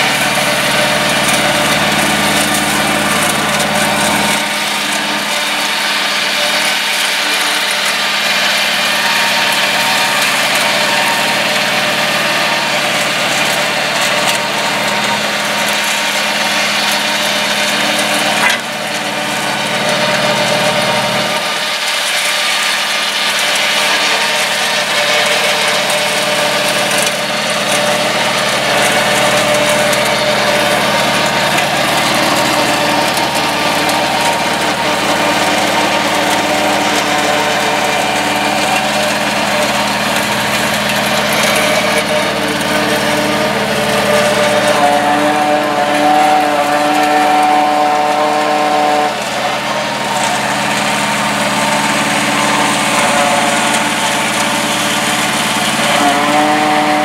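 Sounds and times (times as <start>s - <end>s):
diesel engine under load: 0.0s - 57.0s
flail mower rotor whirring: 0.0s - 57.0s.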